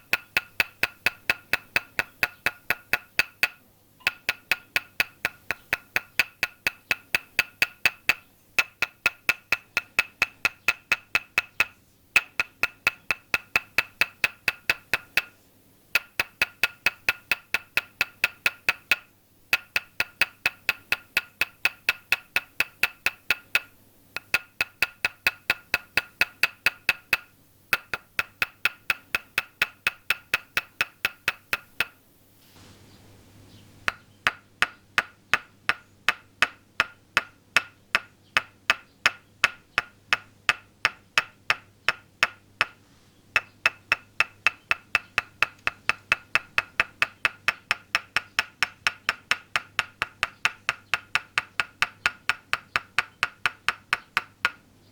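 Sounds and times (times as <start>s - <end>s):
wooden mallet tapping wooden stake: 0.0s - 32.0s, 33.8s - 54.6s.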